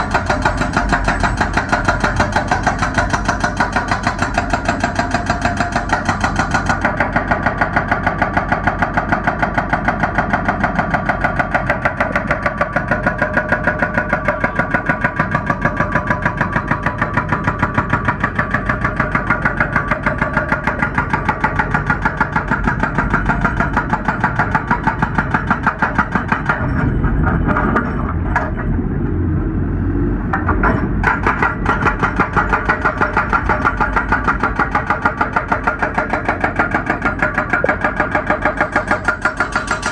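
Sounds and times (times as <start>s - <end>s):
hydraulic breaker hammering rock: 0.0s - 28.6s, 30.3s - 39.9s
excavator engine running: 0.0s - 39.9s.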